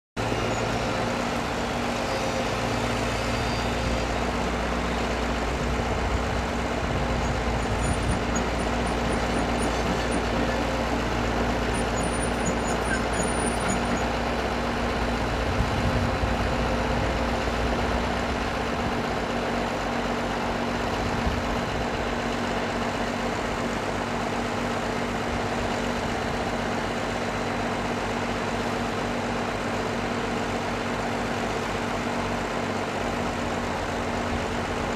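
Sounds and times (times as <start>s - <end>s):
excavator engine rumble: 0.2s - 34.9s
tractor engines running: 0.2s - 34.9s.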